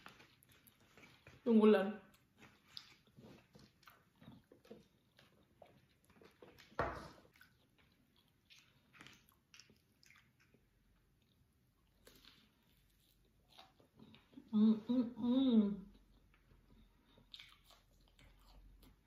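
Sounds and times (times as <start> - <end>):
person chewing: 0.0 - 1.4, 2.1 - 14.5, 15.9 - 19.0.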